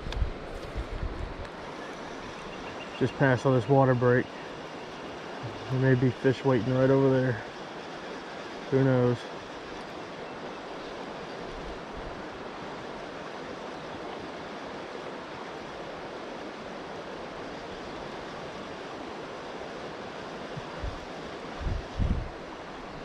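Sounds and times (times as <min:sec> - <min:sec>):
creek water rushing over rocks: 0:00.0 - 0:23.0.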